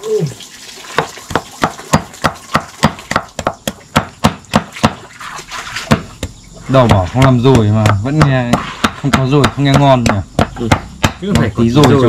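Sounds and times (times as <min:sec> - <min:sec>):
knife chopping food: 0:01.3 - 0:05.0, 0:05.9 - 0:12.0.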